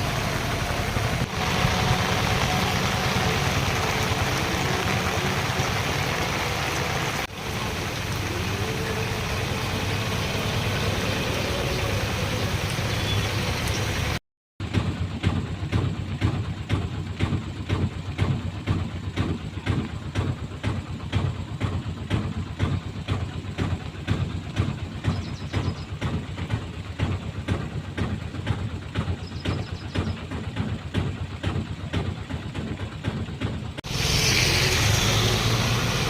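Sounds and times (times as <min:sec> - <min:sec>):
engine running steadily: 0:00.0 - 0:36.0.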